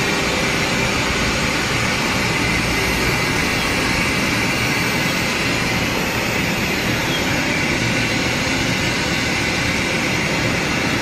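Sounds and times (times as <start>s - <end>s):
cnc router running with whine: 0.0s - 11.0s.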